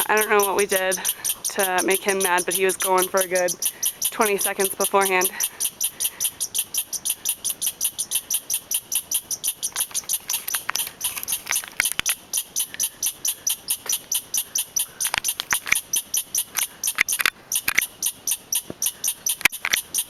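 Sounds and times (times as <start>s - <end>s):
squirrel alarm chatter: 0.0s - 20.0s.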